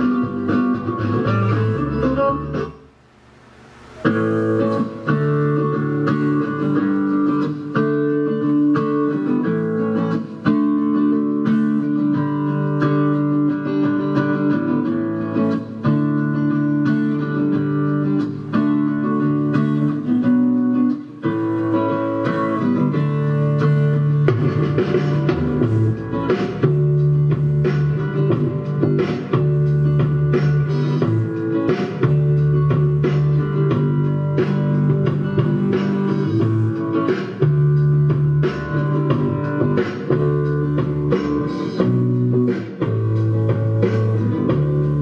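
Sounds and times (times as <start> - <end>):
guitar music through amplifier: 0.0 - 45.0.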